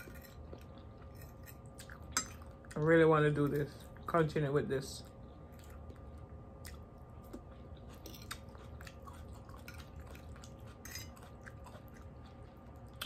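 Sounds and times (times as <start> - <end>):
person chewing food: 0.0 - 2.9, 5.0 - 13.0.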